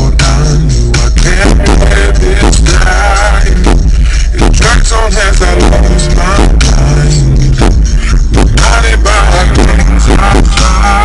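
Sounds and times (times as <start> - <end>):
heavy subwoofer bass: 0.0 - 11.0
hip hop music through car speakers: 0.0 - 11.0.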